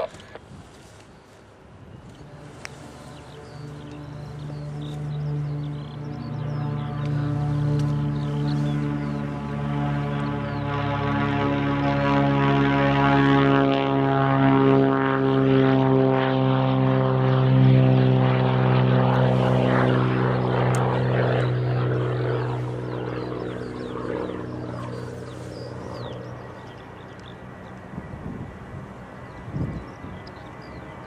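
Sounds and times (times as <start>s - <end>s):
light aircraft engine buzzing: 0.0s - 31.0s.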